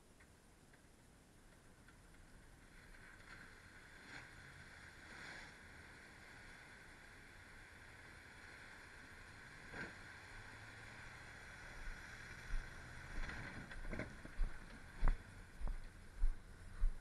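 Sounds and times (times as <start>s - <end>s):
truck engine: 3.0s - 17.0s.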